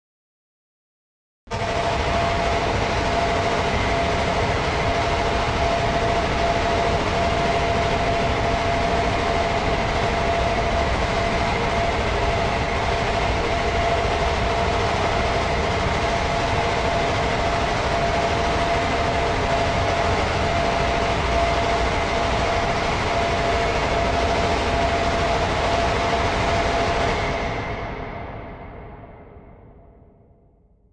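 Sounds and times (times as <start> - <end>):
dense background noise: 1.5 - 28.3.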